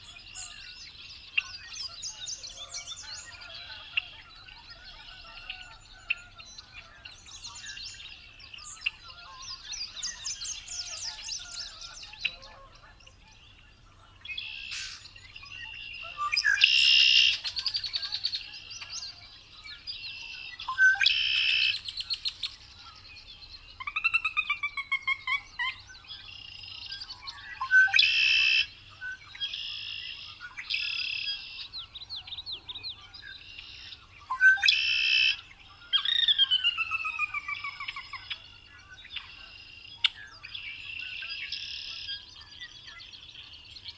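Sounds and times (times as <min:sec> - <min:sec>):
blackbird trilled song: 0:00.0 - 0:43.9.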